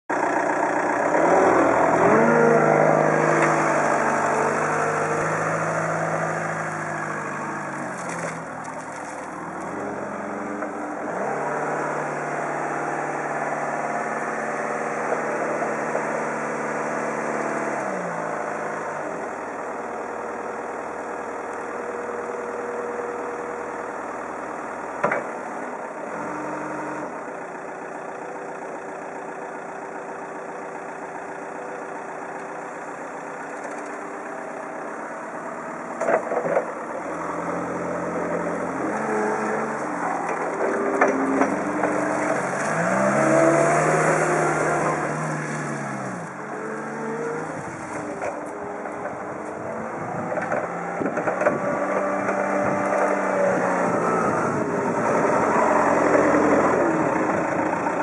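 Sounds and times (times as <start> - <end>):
diesel forklift engine revving: 0.1 - 58.0.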